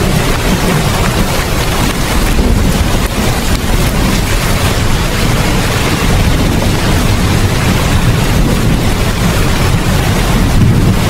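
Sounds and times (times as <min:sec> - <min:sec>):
deep continuous rumble: 0:00.0 - 0:11.0
heavy rain hissing: 0:00.0 - 0:11.0.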